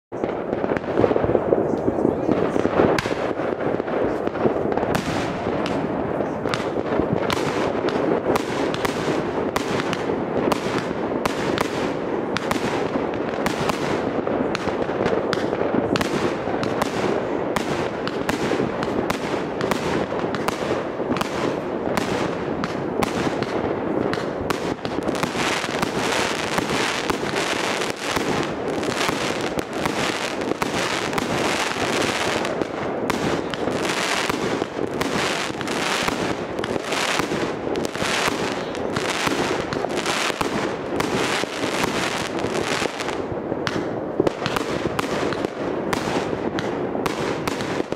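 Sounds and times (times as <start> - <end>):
firework bangs and crackle: 0.1 - 47.9.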